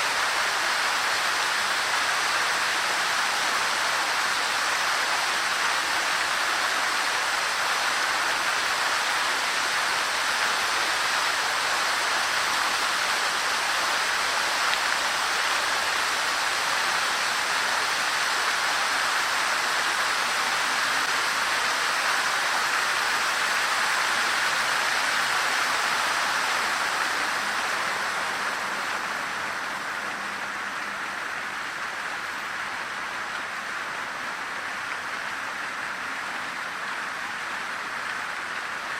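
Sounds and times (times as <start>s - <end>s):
fountain water splashing: 0.0s - 38.9s.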